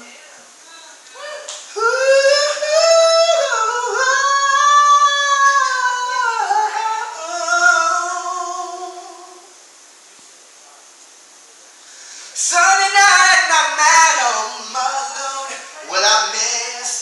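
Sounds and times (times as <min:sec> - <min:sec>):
person singing a cappella: 0:00.0 - 0:09.6, 0:12.2 - 0:17.0.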